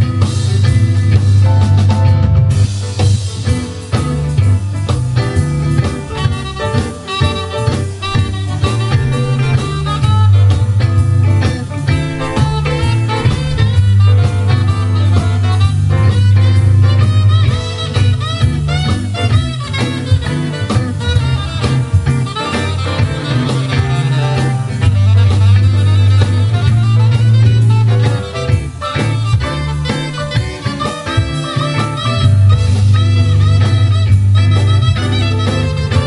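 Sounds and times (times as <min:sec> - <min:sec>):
double bass deep notes: 0:00.0 - 0:03.3, 0:04.0 - 0:36.0
jazz combo playing live: 0:00.0 - 0:36.0.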